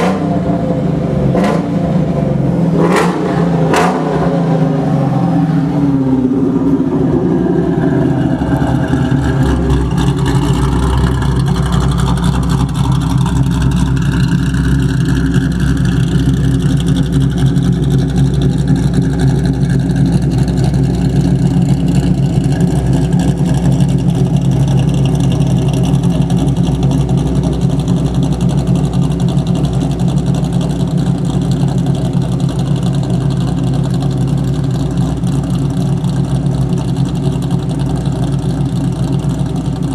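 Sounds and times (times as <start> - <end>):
car engine revving and idling: 0.0 - 39.9
engine tapping noise: 6.6 - 39.9.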